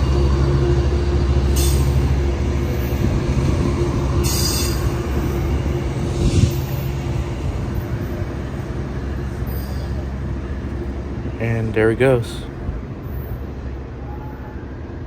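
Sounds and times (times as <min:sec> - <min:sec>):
diesel locomotive humming: 0:00.0 - 0:15.0.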